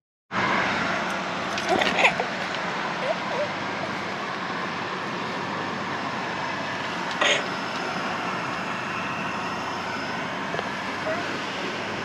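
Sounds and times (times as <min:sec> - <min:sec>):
steady outdoor hiss: 0:00.4 - 0:12.0.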